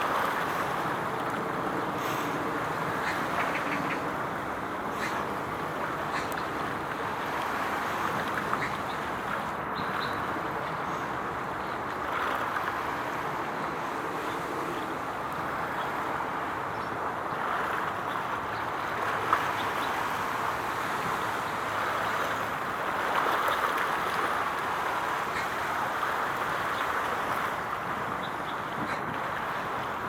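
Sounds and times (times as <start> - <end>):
water swells: 0.0 - 30.0.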